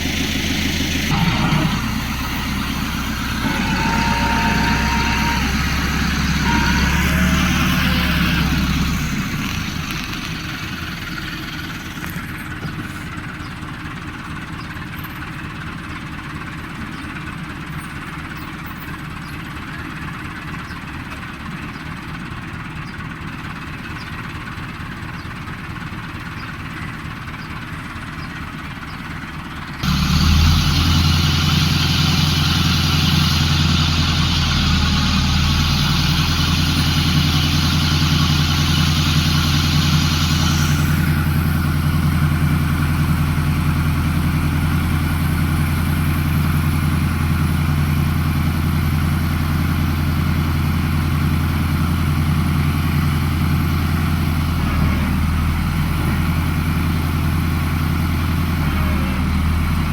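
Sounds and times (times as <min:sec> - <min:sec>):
harvest machinery engine running: 0:00.0 - 0:59.9.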